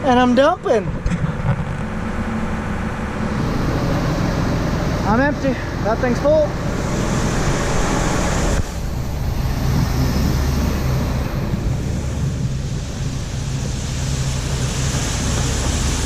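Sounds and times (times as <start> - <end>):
tractor engine running: 0.0 - 16.0
rushing noise: 1.2 - 16.0.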